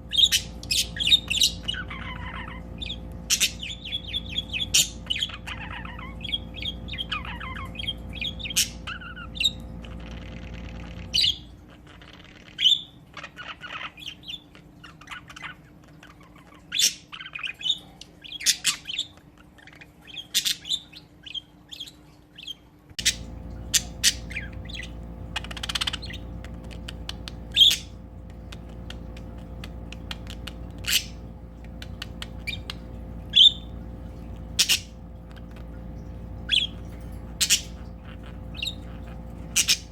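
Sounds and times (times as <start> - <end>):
budgies chirping and squawking: 0.0 - 39.9
low steady hum: 0.0 - 39.9.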